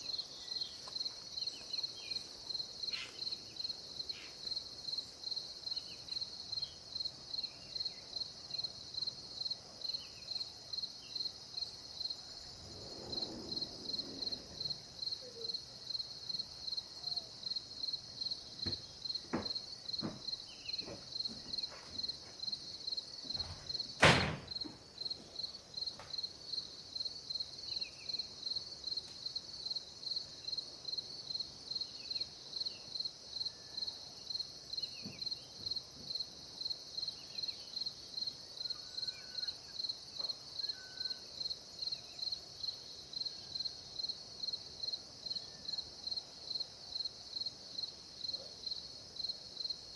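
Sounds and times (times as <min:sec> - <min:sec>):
insects buzzing: 0:00.0 - 0:49.9
insects chirping rhythmically: 0:00.0 - 0:49.9.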